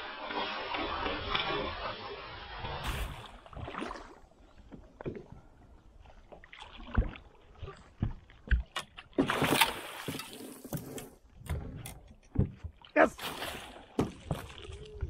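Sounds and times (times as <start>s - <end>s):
water splashing: 0.0s - 11.2s, 12.4s - 15.0s.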